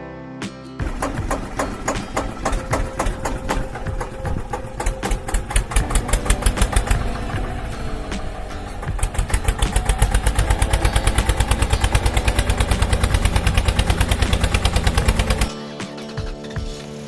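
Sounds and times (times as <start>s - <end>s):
tractor engine chugging: 0.9s - 17.0s.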